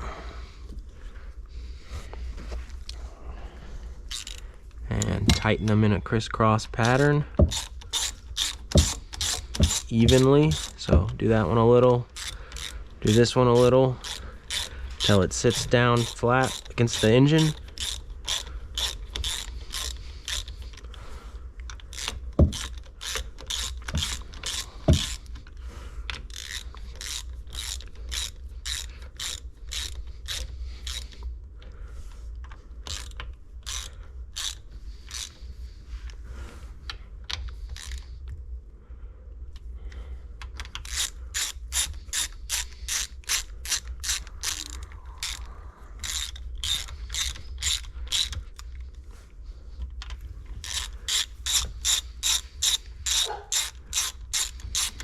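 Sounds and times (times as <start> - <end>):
hand ratchet clicking: 4.1 - 21.0, 21.6 - 31.4, 32.4 - 36.2, 37.3 - 38.4, 39.9 - 49.0, 49.9 - 55.0.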